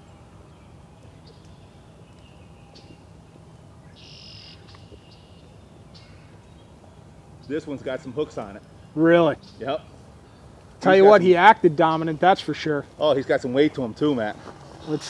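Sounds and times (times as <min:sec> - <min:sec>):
buzzy bird trill: 0:00.0 - 0:15.0
faint low outdoor rumble: 0:00.0 - 0:15.0
songbirds chirping: 0:00.0 - 0:15.0.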